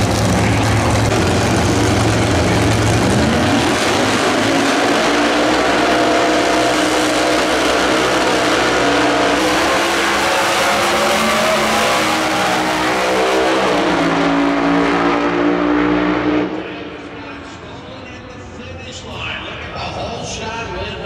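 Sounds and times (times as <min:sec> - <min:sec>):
drag racing engines at full throttle: 0:00.0 - 0:21.0.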